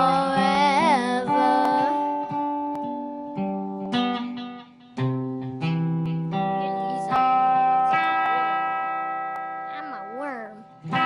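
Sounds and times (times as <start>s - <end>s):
plucked string chords ringing: 0.0s - 11.0s.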